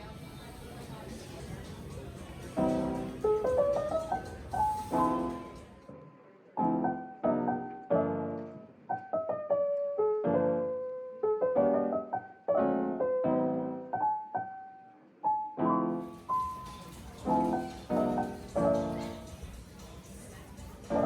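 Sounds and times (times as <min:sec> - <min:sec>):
gentle solo piano melody: 0:01.8 - 0:05.8, 0:06.6 - 0:20.0.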